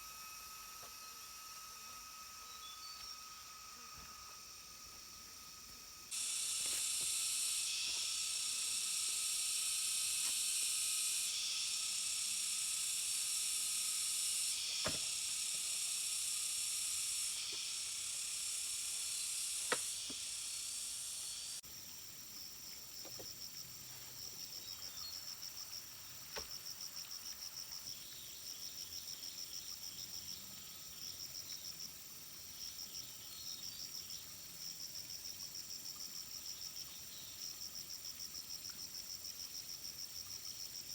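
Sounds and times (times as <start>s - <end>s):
cricket-like pulsing chirp: 0.0s - 40.9s
insect high buzz: 0.0s - 40.9s.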